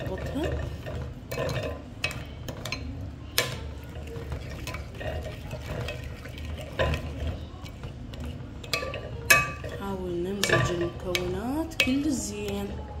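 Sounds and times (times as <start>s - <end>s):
spoon stirring sauce in bowl: 0.0s - 13.0s.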